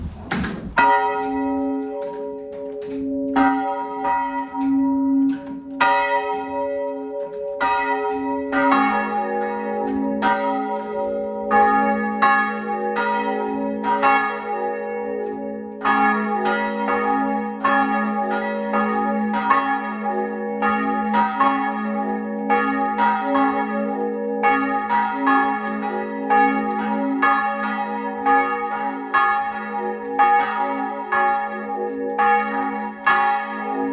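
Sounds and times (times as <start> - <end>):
church bell striking: 0.0 - 33.9
lower church bell: 0.6 - 33.9.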